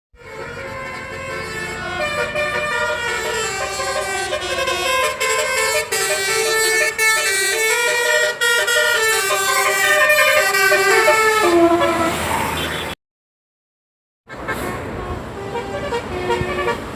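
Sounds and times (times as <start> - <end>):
multi-tone bus horn playing a tune: 0.2 - 13.0, 14.3 - 16.9.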